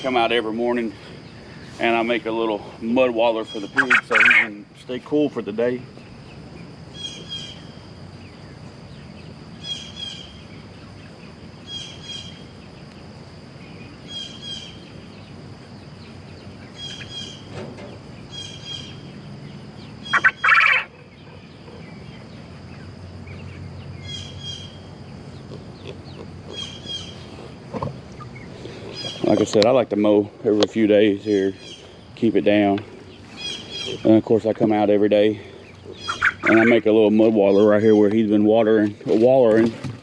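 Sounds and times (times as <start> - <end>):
bird calling: 0.0 - 4.7, 5.9 - 29.6, 31.0 - 38.7.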